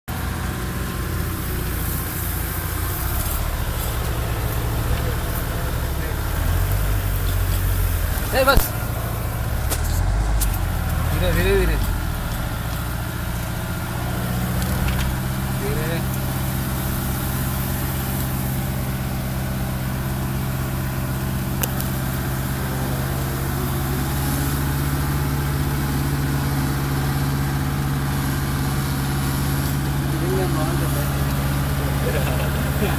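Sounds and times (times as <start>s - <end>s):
tractor engine droning: 0.1s - 32.9s.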